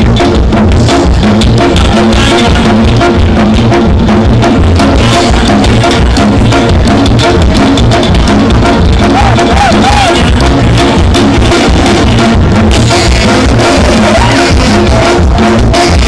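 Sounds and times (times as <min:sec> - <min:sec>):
drum-kit beat: 0:00.0 - 0:16.0
live band playing: 0:00.0 - 0:16.0
thumping bass: 0:00.0 - 0:16.0.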